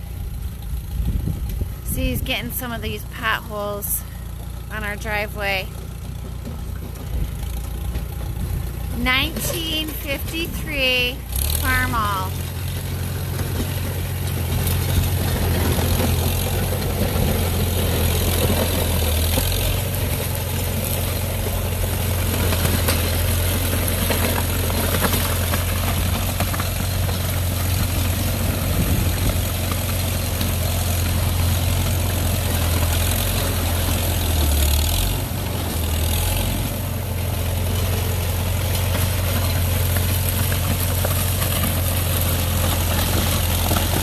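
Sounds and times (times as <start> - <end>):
tractor engine passing: 0.0 - 44.0.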